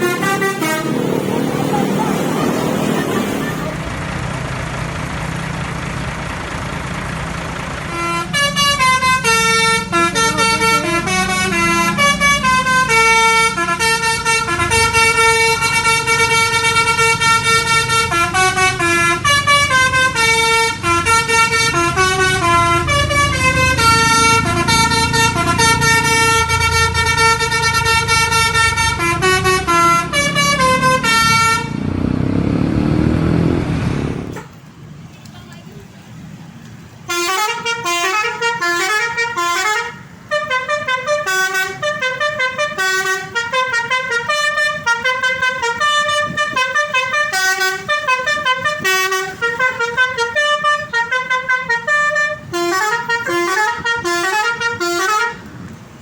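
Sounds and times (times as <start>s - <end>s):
air horn playing a melody: 0.0s - 3.9s, 7.9s - 31.8s, 37.1s - 55.5s
bus engine running: 0.0s - 56.0s.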